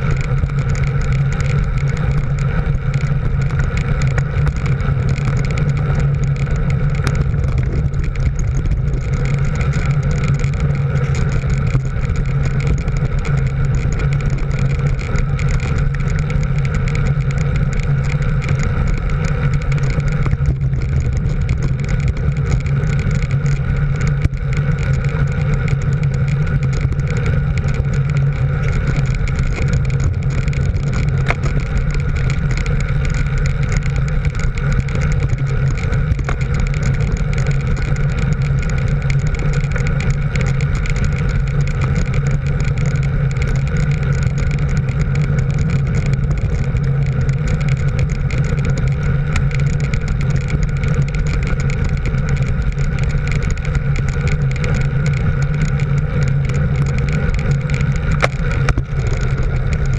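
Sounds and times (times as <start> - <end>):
vehicle engine droning: 0.0 - 59.9
wind and road noise: 0.0 - 59.9.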